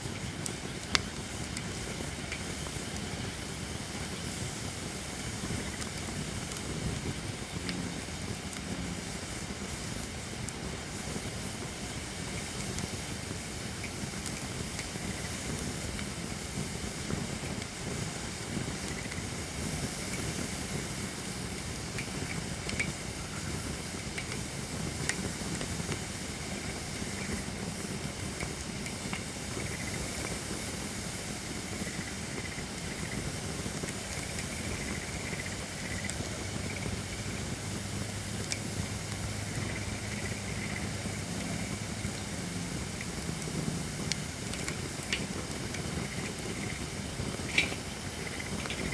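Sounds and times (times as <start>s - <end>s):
campfire burning with hiss: 0.0s - 48.9s
fire crackling pops: 0.0s - 48.9s.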